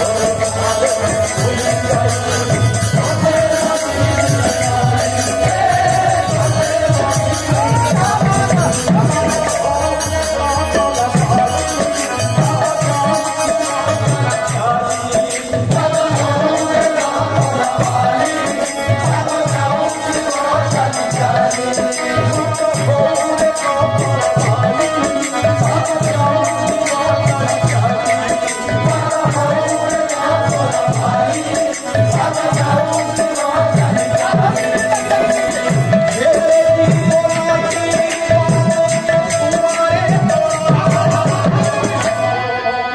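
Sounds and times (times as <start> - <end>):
group singing: 0.0 - 42.9.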